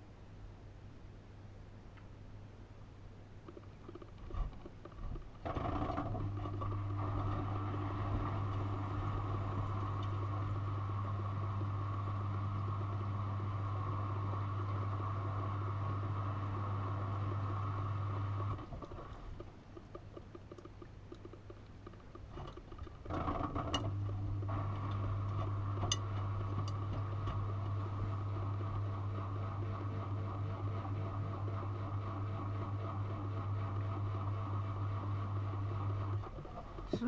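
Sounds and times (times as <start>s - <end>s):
washing machine drain pump humming: 4.2s - 37.0s.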